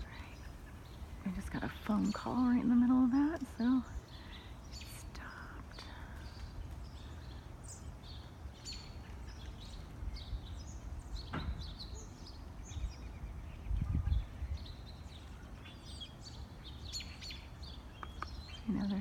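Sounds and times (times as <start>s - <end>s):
low outdoor rumble: 0.0s - 16.8s
small birds chirping: 0.0s - 19.0s.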